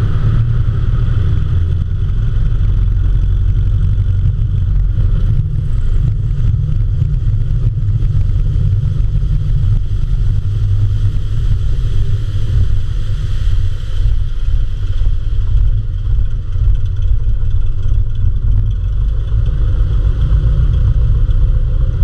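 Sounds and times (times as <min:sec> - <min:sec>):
propeller plane engine rumbling: 0:00.0 - 0:22.0.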